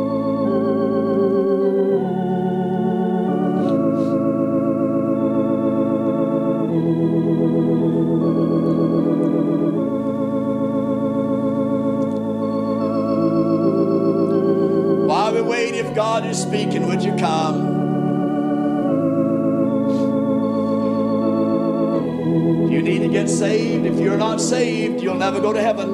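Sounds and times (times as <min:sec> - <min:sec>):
organ playing a slow hymn: 0:00.0 - 0:25.9.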